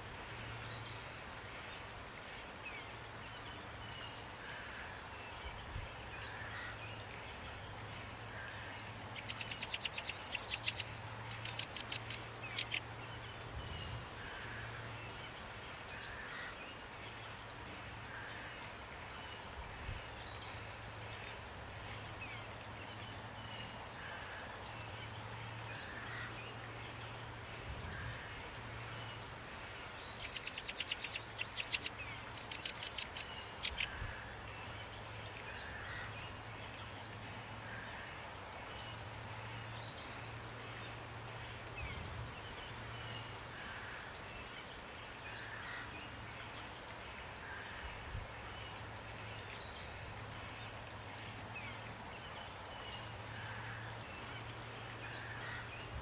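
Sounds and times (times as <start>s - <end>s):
rain hiss: 0.0s - 56.0s
songbirds chirping: 0.0s - 56.0s.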